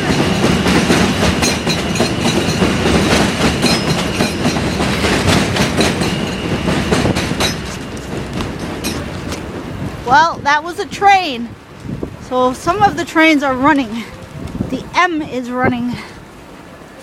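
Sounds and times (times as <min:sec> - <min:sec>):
wheels clattering over rail joints: 0:00.0 - 0:15.9
elevated train running past: 0:00.0 - 0:17.0.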